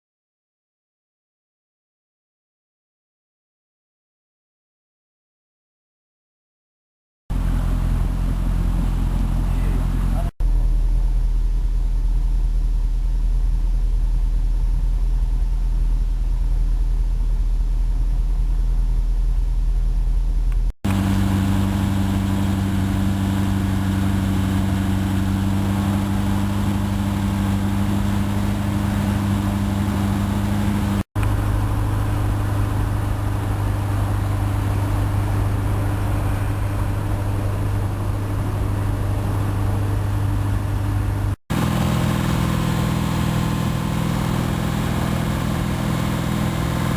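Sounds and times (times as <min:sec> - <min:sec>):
car engine idling: 0:07.3 - 0:46.9.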